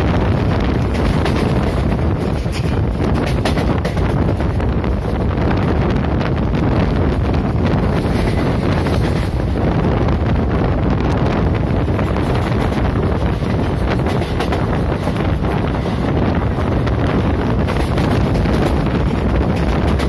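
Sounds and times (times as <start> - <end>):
train coaches running on rails: 0.0 - 20.0
wind buffeting microphone: 0.0 - 20.0.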